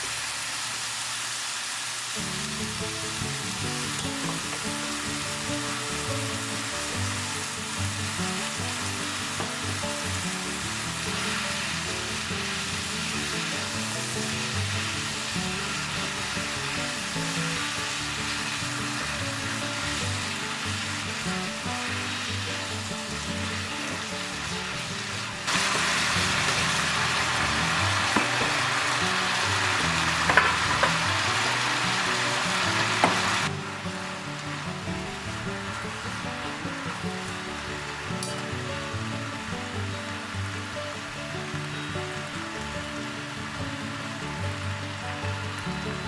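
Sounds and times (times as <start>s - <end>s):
noodles sizzling in a hot pan: 0.0s - 46.0s.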